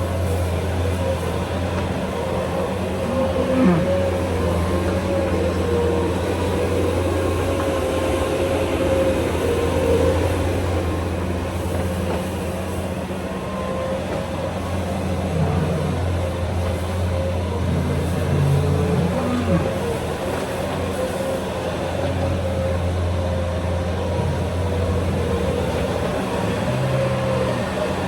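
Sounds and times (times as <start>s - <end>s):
large engine droning: 0.0s - 28.0s.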